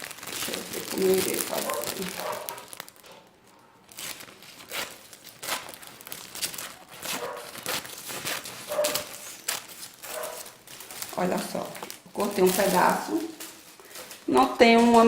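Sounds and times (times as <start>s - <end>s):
cellophane crinkling: 0.0s - 15.0s.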